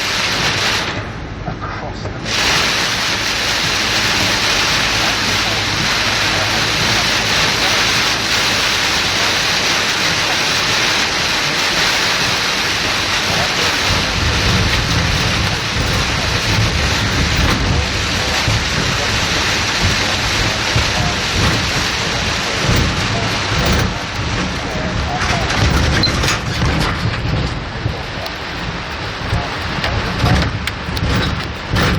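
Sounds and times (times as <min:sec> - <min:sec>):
heavy rain pouring: 0:00.0 - 0:31.9
low rumble: 0:00.0 - 0:31.9.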